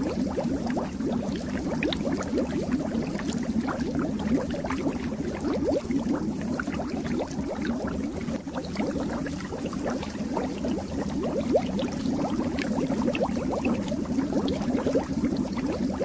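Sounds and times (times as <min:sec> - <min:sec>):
fish tank water bubbling: 0:00.0 - 0:16.0.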